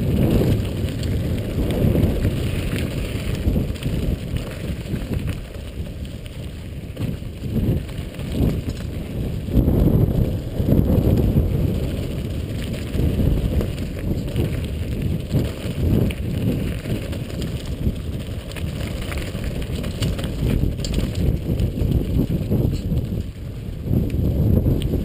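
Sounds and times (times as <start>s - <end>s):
tyres rumbling on dirt: 0.0s - 22.8s
bike rattling over stones: 0.0s - 25.0s
wind on microphone: 0.0s - 25.0s.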